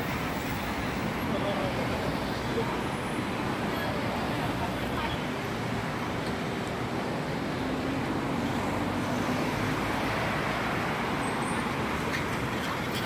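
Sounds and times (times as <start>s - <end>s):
cars and buses passing: 0.0s - 13.0s.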